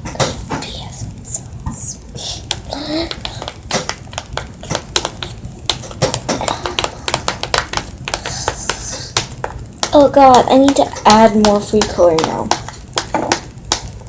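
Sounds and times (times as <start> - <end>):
utensil clicking and scraping a bowl: 2.4 - 14.0.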